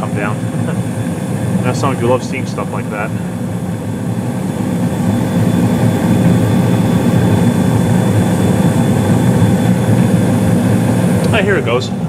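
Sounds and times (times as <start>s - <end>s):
faint steady whine: 0.0s - 12.0s
gas furnace low rumble: 0.0s - 12.0s.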